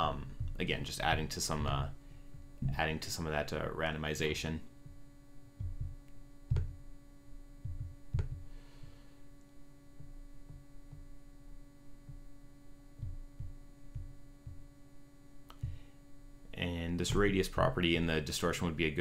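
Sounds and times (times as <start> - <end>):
soft low thumps: 0.0 - 3.8, 4.7 - 17.8
steady electrical hum: 0.0 - 19.0.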